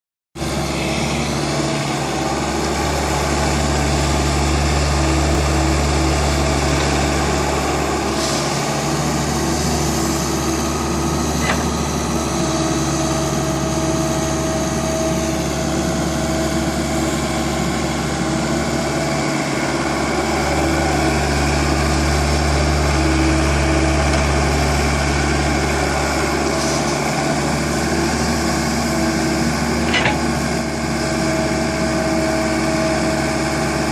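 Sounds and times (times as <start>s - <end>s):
tractor engine rumbling: 0.4s - 33.8s.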